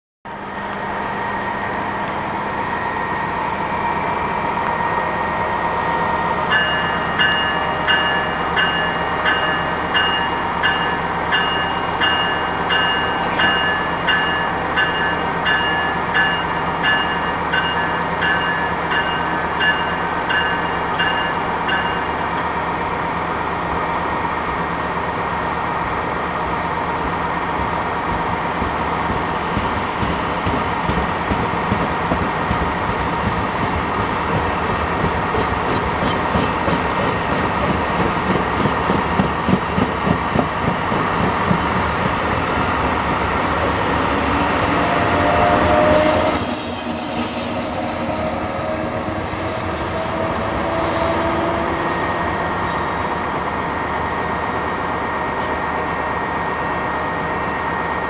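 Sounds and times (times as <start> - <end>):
train wheels rumbling on rails: 0.3 - 58.0.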